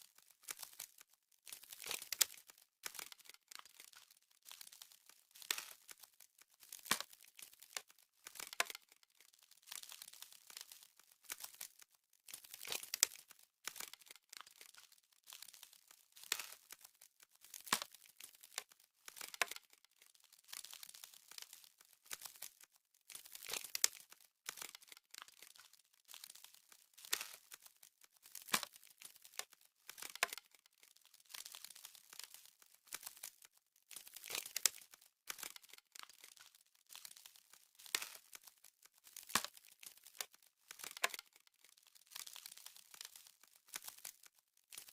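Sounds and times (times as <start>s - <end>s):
ice crackling and crunching: 0.0s - 44.9s.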